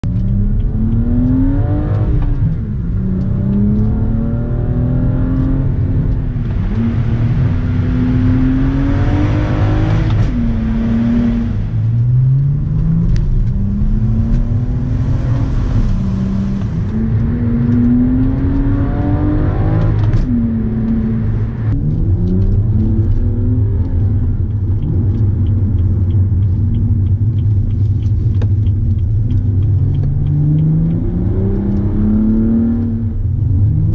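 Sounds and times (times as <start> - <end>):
car engine accelerating through gears: 0.0 - 33.9.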